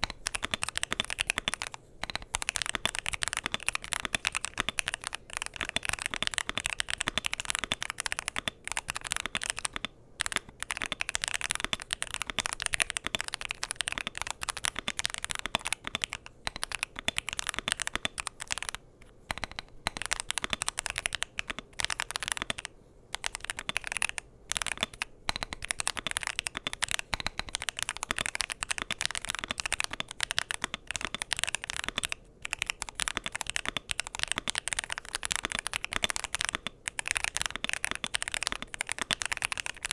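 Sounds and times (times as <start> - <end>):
keyboard keystroke clacks: 0.0 - 39.9.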